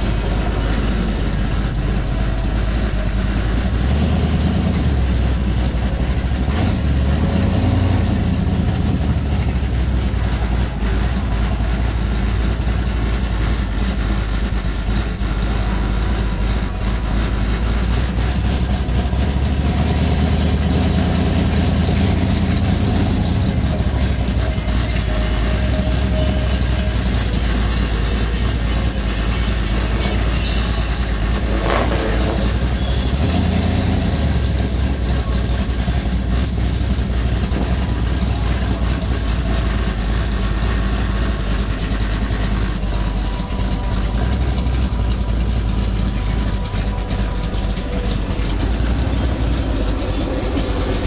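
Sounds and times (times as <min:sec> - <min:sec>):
car engine rumbling: 0:00.0 - 0:51.0
road and wind noise: 0:00.0 - 0:51.0.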